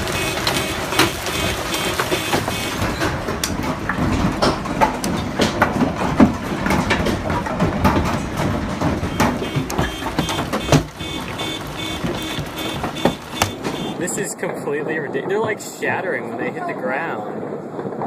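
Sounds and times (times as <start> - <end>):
hailstones hitting the ground: 0.0 - 18.0.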